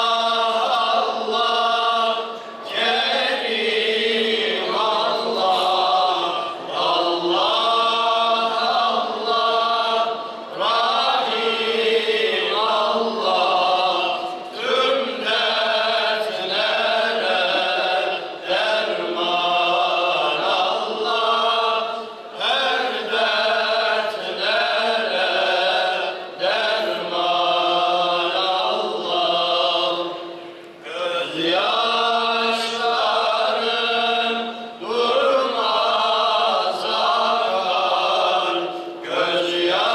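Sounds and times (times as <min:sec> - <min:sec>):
men singing a hymn together: 0:00.0 - 0:39.9.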